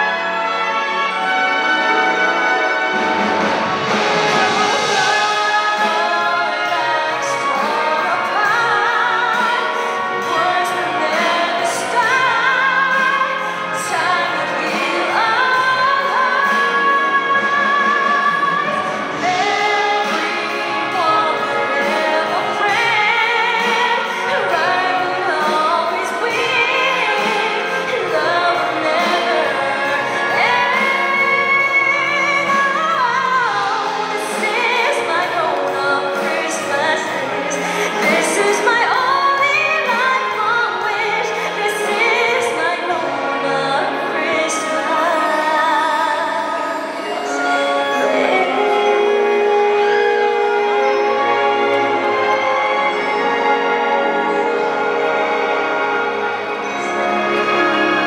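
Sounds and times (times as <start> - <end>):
symphony orchestra: 0.0 - 58.0
woman singing a ballad: 4.3 - 51.5.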